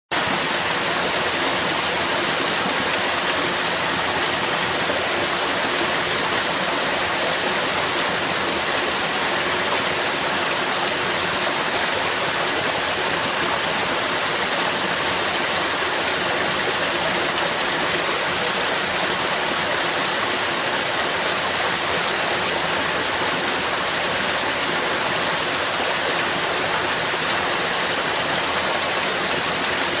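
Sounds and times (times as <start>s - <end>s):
water rushing through sewer: 0.1s - 30.0s.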